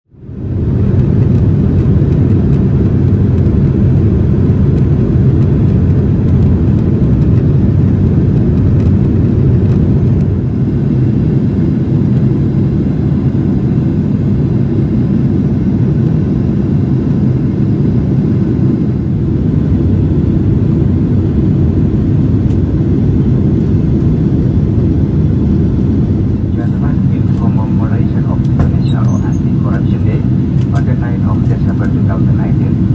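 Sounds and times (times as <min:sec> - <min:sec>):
jet engine roar in cabin: 0:00.1 - 0:32.9.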